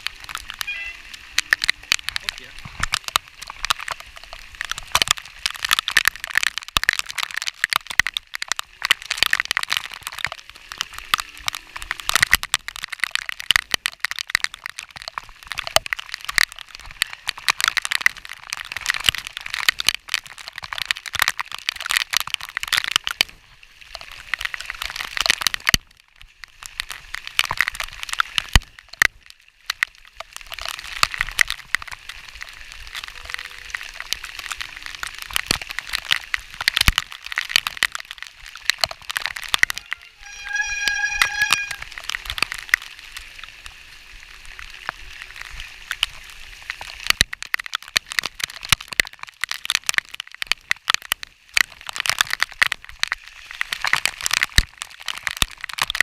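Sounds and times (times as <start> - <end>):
heavy rain hitting microphone: 0.0 - 56.0.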